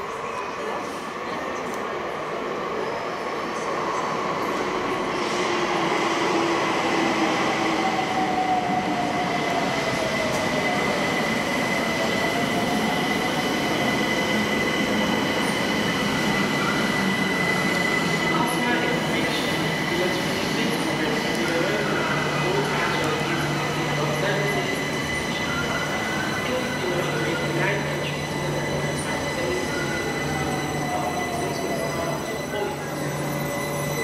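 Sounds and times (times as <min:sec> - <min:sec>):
electric train wheel and track noise: 0:03.5 - 0:34.0.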